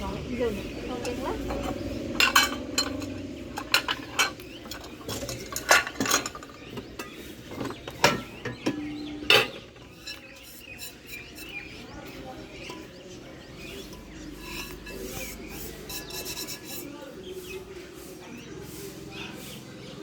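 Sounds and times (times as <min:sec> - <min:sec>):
metal pans clanking: 0:00.6 - 0:17.0.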